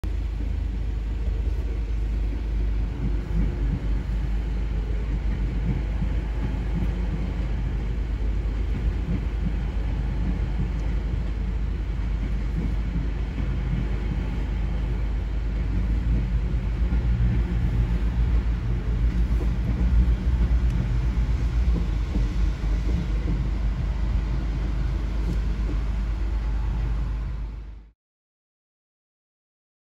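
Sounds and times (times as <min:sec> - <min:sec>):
trains rumbling past: 0:00.0 - 0:28.0.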